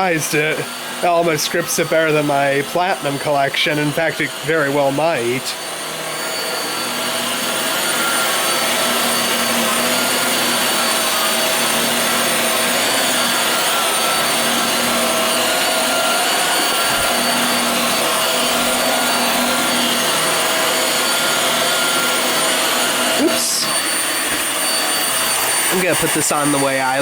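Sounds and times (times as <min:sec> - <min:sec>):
vacuum cleaner running on carpet: 0:00.0 - 0:27.0.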